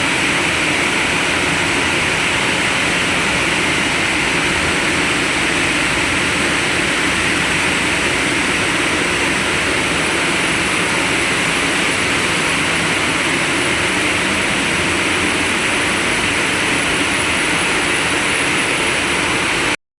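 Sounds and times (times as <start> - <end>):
faint high whine: 0.0 - 19.8
machinery rushing drone: 0.0 - 19.8.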